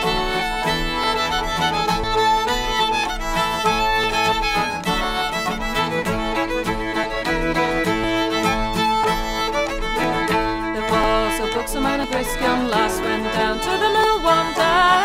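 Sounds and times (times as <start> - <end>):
fiddle folk tune over beat: 0.0 - 15.0.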